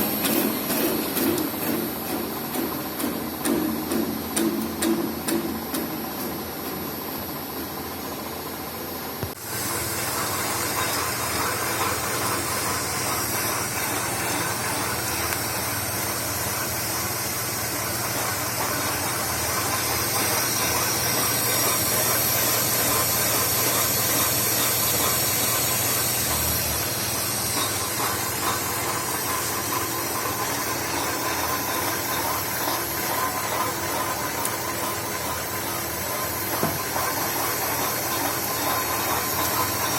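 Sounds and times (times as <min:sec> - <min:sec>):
metalworking machine cutting metal: 0:00.0 - 0:08.1, 0:09.3 - 0:39.9.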